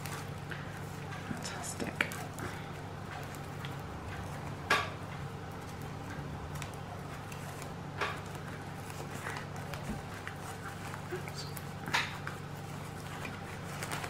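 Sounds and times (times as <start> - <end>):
ribbon rustling and crinkling: 0.0 - 14.0
steady low hum: 0.0 - 14.0.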